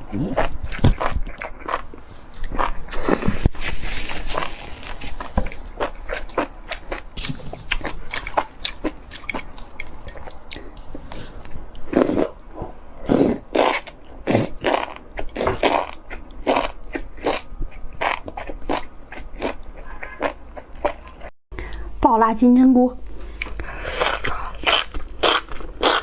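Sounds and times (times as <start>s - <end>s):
person chewing mushrooms: 0.0s - 3.6s, 4.3s - 12.4s, 13.0s - 21.8s, 23.2s - 26.0s.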